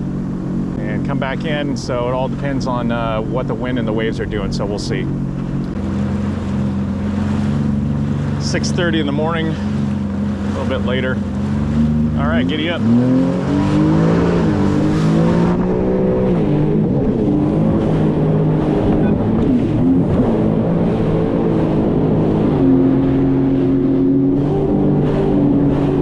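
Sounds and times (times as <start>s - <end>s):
personal watercraft engine running: 0.0s - 26.0s.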